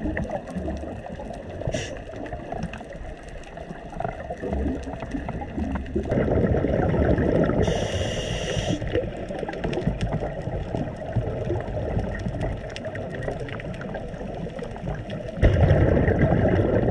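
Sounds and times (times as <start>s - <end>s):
faint crackling clicks: 0.0s - 16.9s
underwater rumble: 0.0s - 16.9s.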